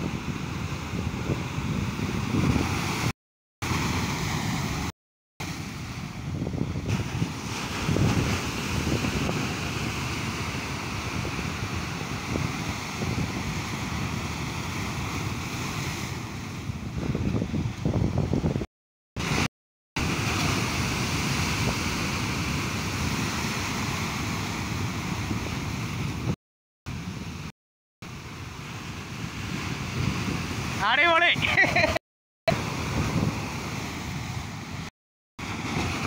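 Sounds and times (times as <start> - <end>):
wind buffeting microphone: 0.0 - 3.1, 5.7 - 27.5, 29.2 - 30.8, 32.5 - 34.9
surf washing over rocks: 0.0 - 18.6, 19.2 - 36.0.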